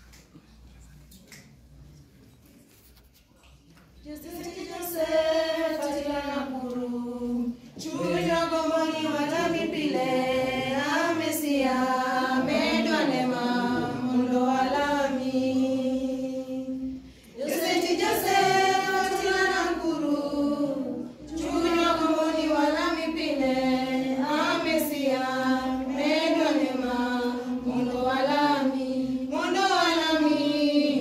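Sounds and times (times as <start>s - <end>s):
choir singing unaccompanied: 4.1s - 31.0s.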